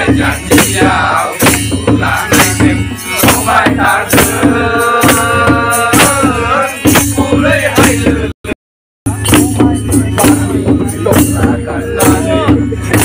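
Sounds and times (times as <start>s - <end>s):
men singing: 0.0s - 8.4s, 9.1s - 13.0s
percussion beat: 0.0s - 13.0s.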